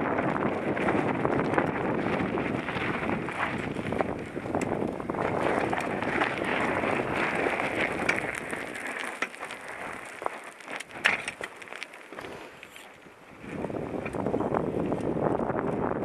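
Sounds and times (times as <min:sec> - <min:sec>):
wind rushing over microphone: 0:00.0 - 0:10.2, 0:13.0 - 0:16.0
tyres crunching on dirt: 0:00.0 - 0:16.0
bike rattling clicks: 0:00.1 - 0:16.0.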